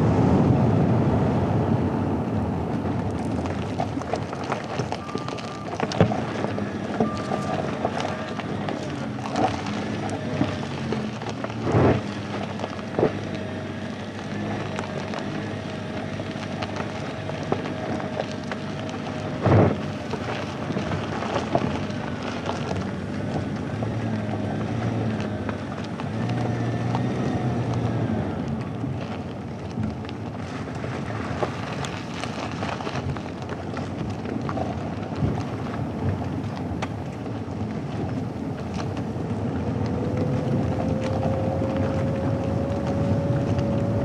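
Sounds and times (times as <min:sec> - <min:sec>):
tyres crunching over gravel: 0:02.7 - 0:44.0.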